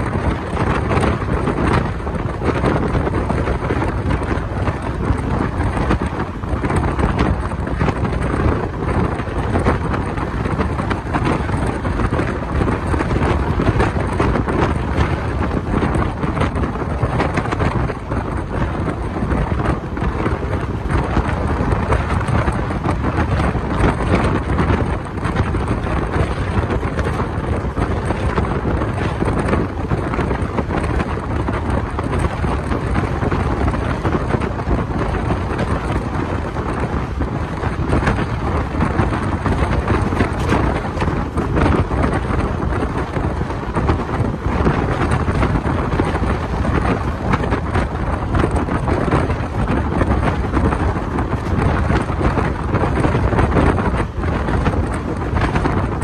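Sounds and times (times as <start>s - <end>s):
train running noise: 0.0s - 56.0s
wind buffeting microphone: 0.0s - 56.0s.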